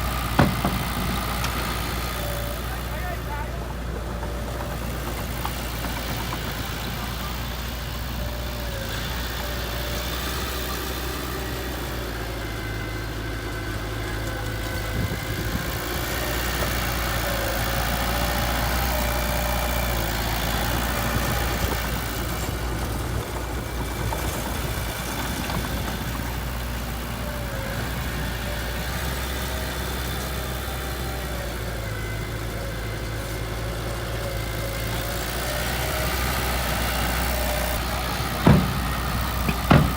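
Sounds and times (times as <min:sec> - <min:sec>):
heavy machinery engine idling: 0:00.0 - 0:39.9.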